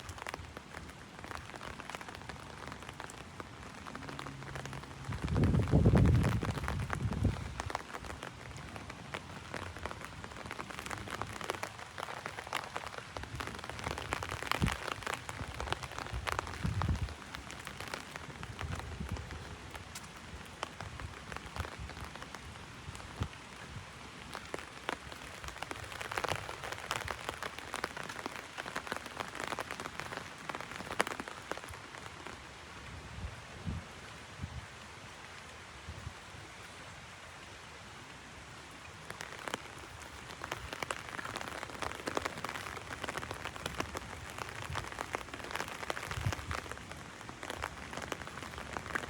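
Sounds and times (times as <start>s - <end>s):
rain drumming on an umbrella: 0.0s - 49.0s.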